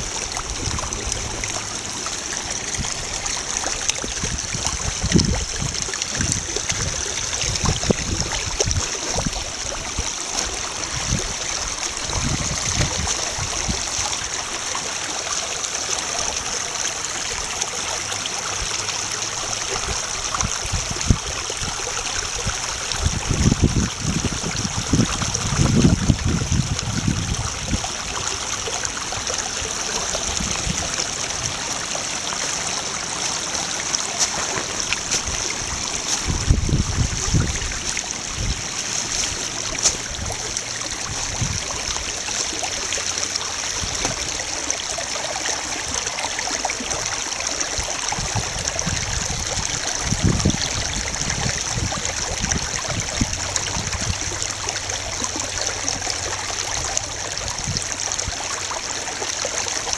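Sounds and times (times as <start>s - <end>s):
brook babbling over gravel: 0.0s - 59.9s.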